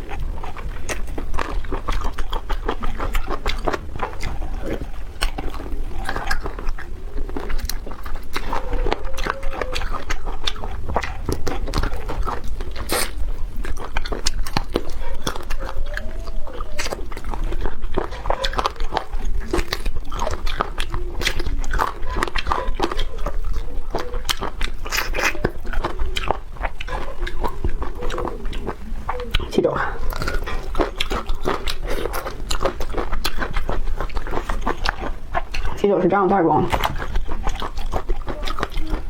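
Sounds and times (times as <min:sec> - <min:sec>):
crunchy chewing: 0:00.0 - 0:39.0.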